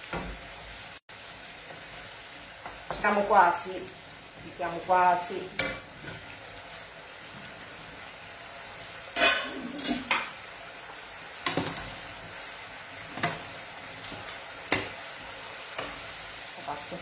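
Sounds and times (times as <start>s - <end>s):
food sizzling in pans: 0.0s - 17.0s.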